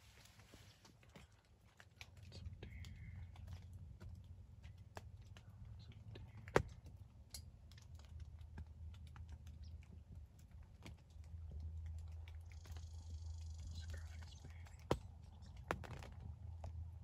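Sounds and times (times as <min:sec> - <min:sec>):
low steady rumble: 0:00.0 - 0:17.0
small clicks and taps: 0:00.2 - 0:16.9.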